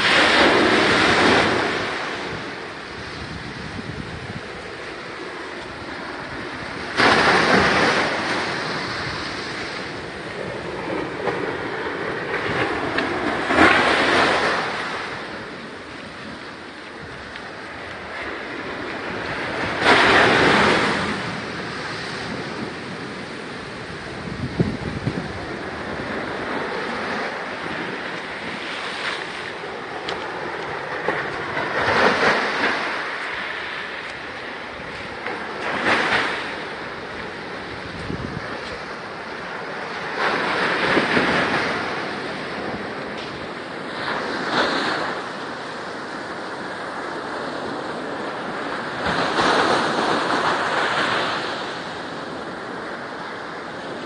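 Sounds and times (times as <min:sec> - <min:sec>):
ocean waves crashing: 0:00.0 - 0:54.0.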